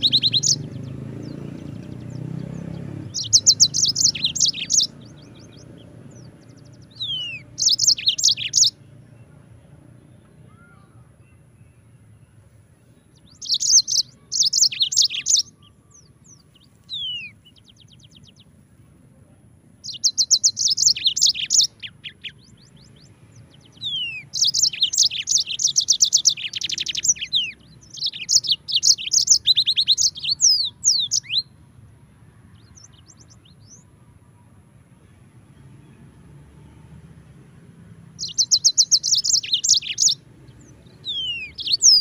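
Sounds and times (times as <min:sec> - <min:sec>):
canary singing trills: 0:00.0 - 0:09.4, 0:10.6 - 0:18.8, 0:19.6 - 0:31.7, 0:32.3 - 0:34.5, 0:37.3 - 0:42.0.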